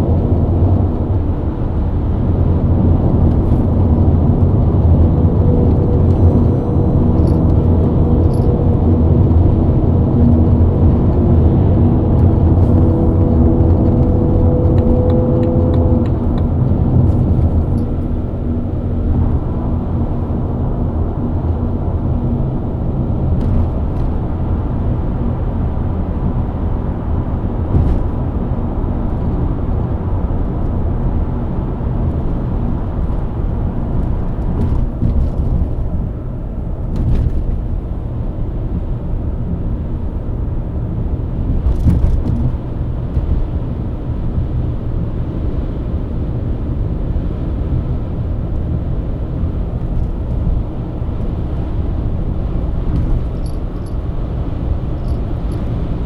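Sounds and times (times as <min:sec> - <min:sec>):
tyre and road rumble: 0:00.0 - 0:45.2, 0:46.3 - 0:56.0
car engine cruising: 0:00.0 - 0:56.0.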